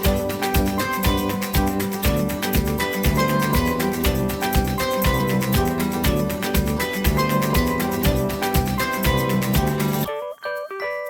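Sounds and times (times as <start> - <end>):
music with plucked guitar: 0.0 - 11.0.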